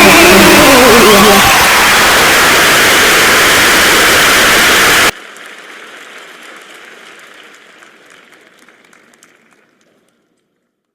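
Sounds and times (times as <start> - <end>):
crowd cheering: 0.0 - 10.0
scattered clapping: 0.0 - 10.6.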